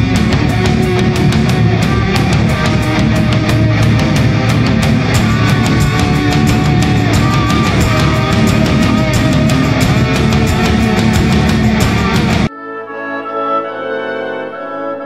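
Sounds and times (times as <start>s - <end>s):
hard rock music: 0.0s - 12.5s.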